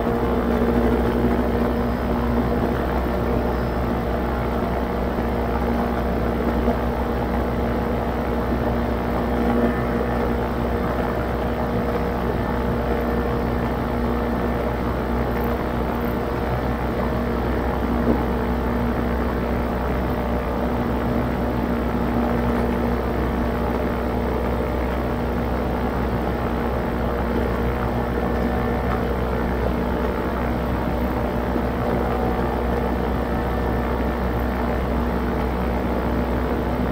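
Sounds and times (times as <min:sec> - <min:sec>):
paramotor engine droning: 0:00.0 - 0:36.9.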